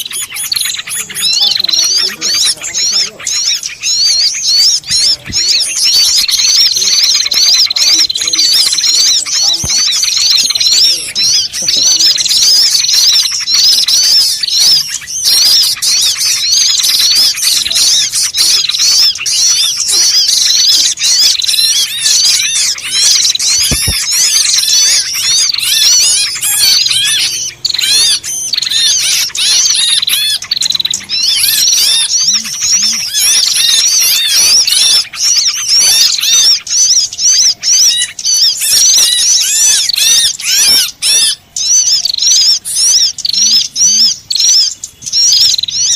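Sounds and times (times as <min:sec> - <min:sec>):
flock of small birds chirping: 0:00.0 - 0:45.9.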